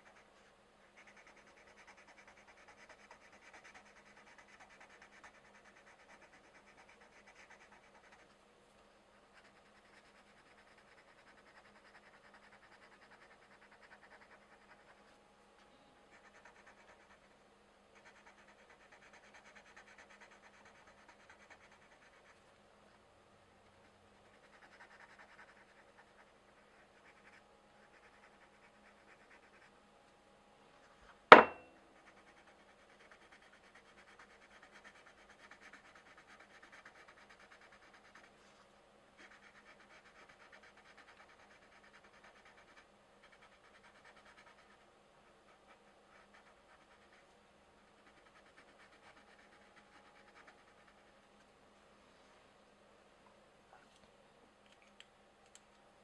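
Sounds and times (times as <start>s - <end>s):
pencil scratching on paper: 0.0s - 8.4s, 9.1s - 15.2s, 16.1s - 17.3s, 18.0s - 22.4s, 23.8s - 29.7s, 31.3s - 38.6s, 39.2s - 51.1s.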